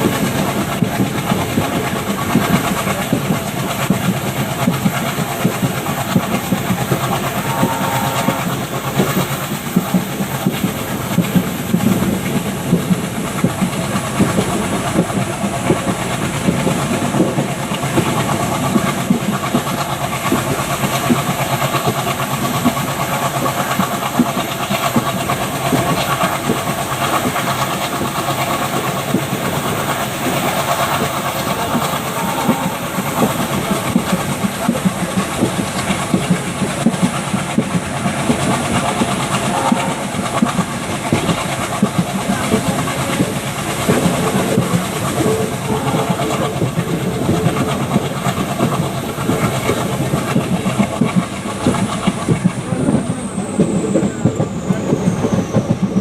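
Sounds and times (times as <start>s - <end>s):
diesel locomotive engine running: 0.0s - 56.0s
train wheels clattering on track: 0.0s - 56.0s.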